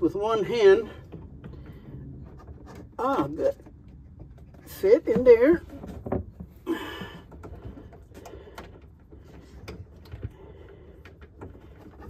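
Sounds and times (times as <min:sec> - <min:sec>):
hardware clicks and knocks: 0:00.8 - 0:12.0.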